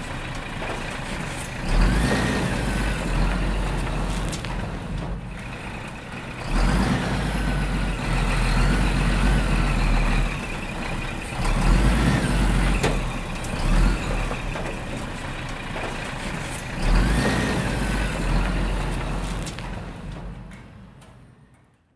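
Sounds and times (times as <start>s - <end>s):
heavy truck engine rumbling: 0.0s - 21.9s.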